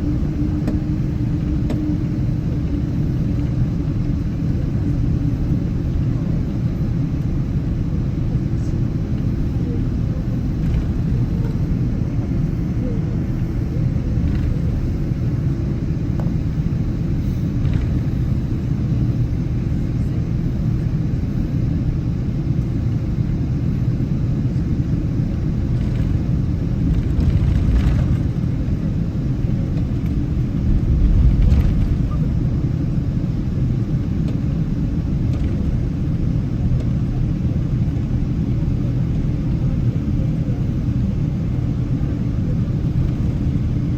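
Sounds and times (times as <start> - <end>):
airplane cabin rumble: 0.0 - 43.9.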